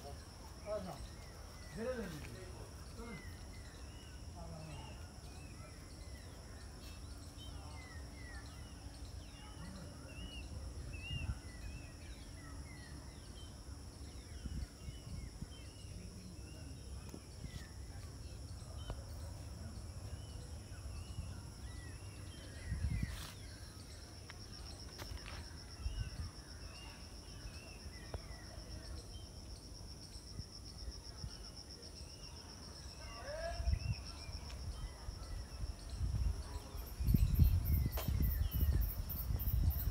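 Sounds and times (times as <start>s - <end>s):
insects droning: 0.0s - 39.9s
small birds chirping: 0.0s - 39.9s.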